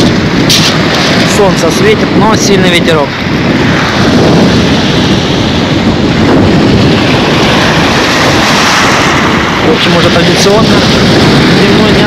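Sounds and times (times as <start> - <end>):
waves breaking on pebble beach: 0.0 - 12.0
wind buffeting microphone: 0.0 - 12.0.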